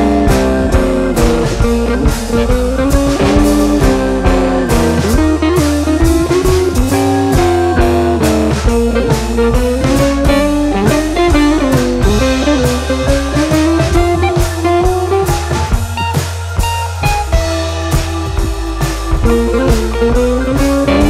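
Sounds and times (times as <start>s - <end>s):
sliding lead melody: 0.0s - 21.0s
steady drum beat: 0.0s - 21.0s.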